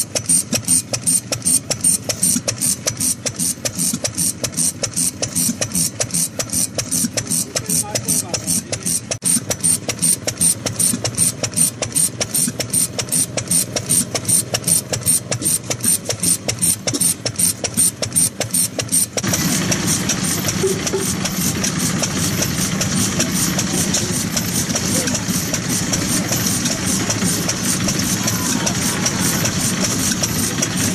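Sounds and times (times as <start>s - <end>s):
stationary engine running: 0.0s - 30.9s.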